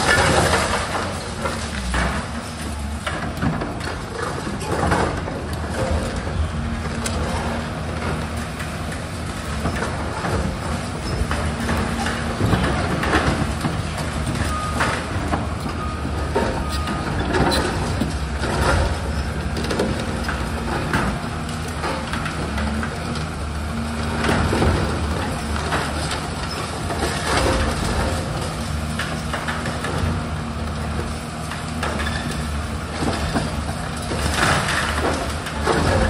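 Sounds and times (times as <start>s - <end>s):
concrete crunching and debris clattering: 0.0s - 36.0s
excavator diesel engine running: 0.0s - 36.0s.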